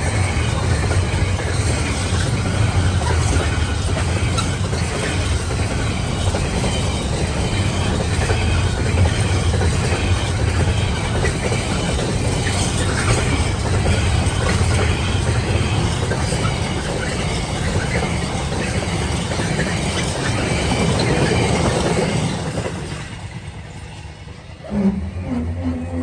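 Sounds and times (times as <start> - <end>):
freight train rumbling and clattering: 0.0 - 26.0.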